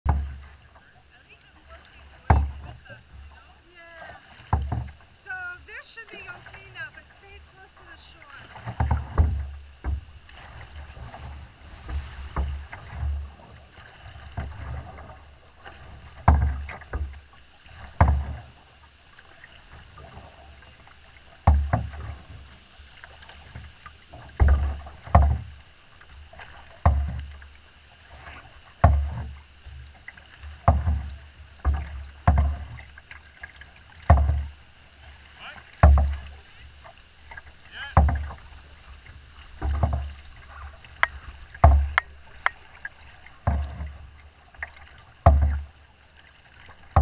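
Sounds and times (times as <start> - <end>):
thuds on hull: 0.0 - 0.9, 1.8 - 47.0
water slapping against boat hull: 0.0 - 47.0
rush of water and wind: 0.1 - 47.0.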